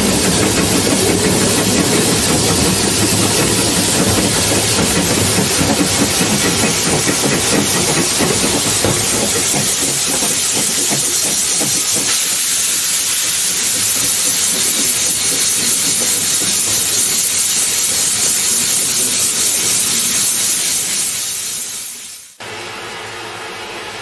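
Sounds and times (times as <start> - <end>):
steam hissing: 0.0 - 22.4.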